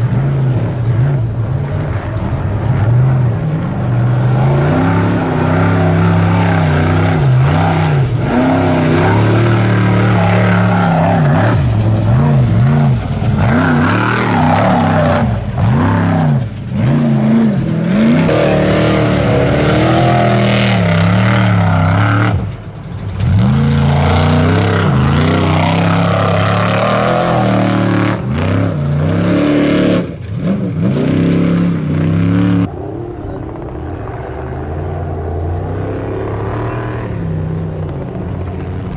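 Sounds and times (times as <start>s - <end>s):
race truck engine revving: 0.0s - 38.9s.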